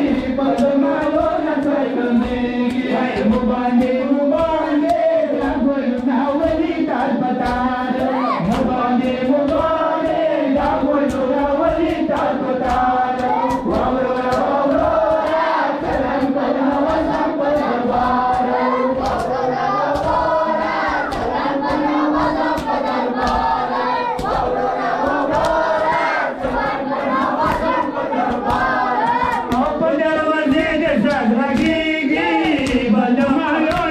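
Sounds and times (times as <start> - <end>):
group chanting in unison: 0.0 - 33.9
lead reciter on microphone: 0.0 - 33.9
hands slapping chests: 0.1 - 33.9.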